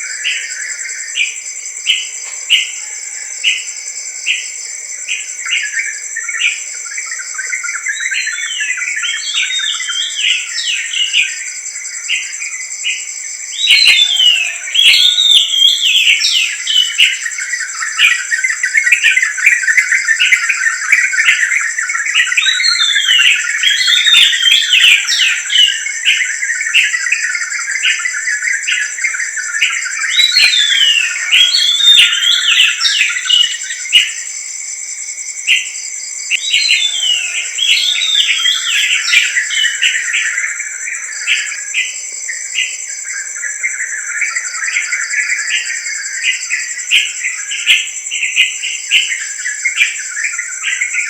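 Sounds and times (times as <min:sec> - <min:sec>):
birds singing: 0:00.0 - 0:34.3, 0:36.3 - 0:51.0
dense chirping: 0:00.0 - 0:34.5, 0:35.2 - 0:51.0
crickets droning: 0:00.0 - 0:51.0.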